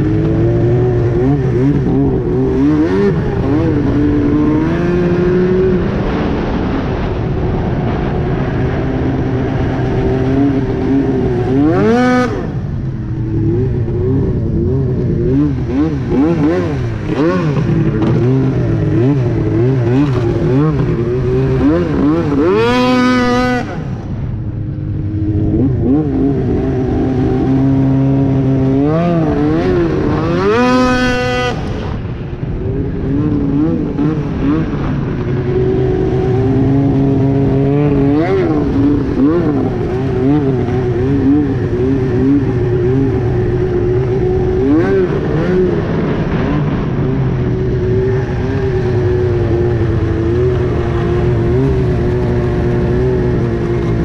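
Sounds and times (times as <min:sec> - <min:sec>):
snowmobile engine revving: 0:00.0 - 0:24.2, 0:24.9 - 0:32.0, 0:32.6 - 0:54.0.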